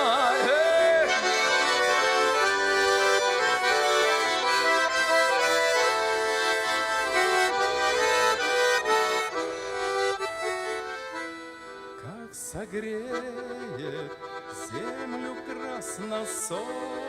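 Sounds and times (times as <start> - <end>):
accordion melody: 0.0 - 17.0.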